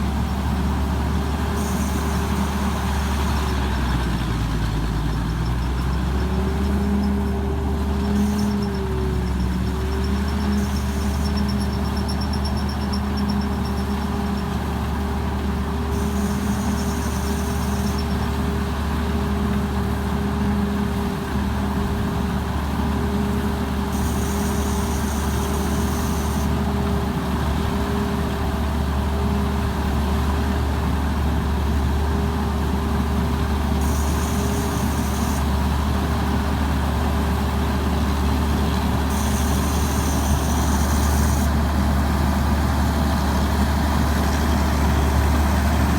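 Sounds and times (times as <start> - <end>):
diesel engine running steadily: 0.0 - 45.9.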